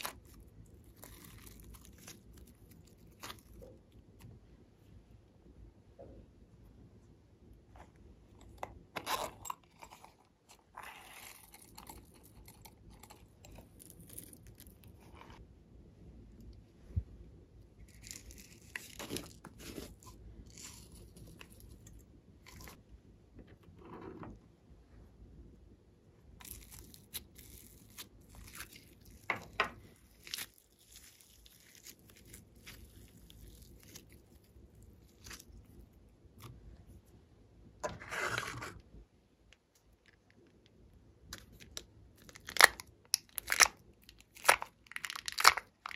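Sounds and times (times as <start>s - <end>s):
clay crackling and squishing: 0.0s - 45.9s.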